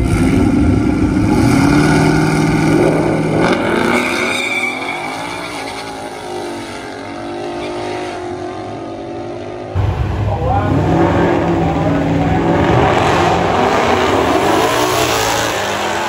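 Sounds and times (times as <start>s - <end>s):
drag car engine revving and accelerating: 0.0s - 16.0s.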